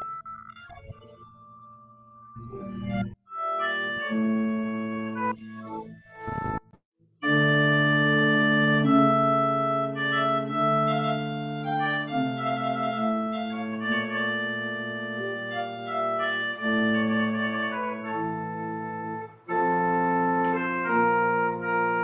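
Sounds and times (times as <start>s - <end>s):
pipe organ chords: 2.3s - 6.6s, 7.2s - 22.0s.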